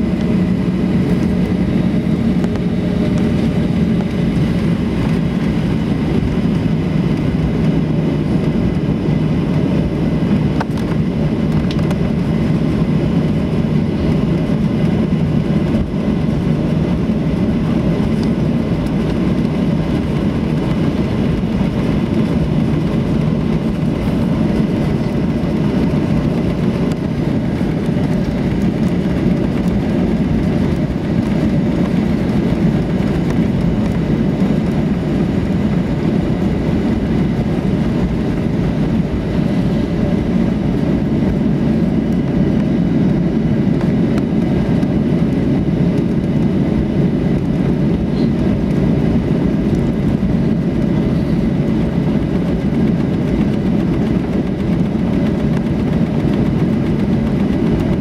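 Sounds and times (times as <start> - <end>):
aircraft cabin rumble while taxiing: 0.0 - 58.0.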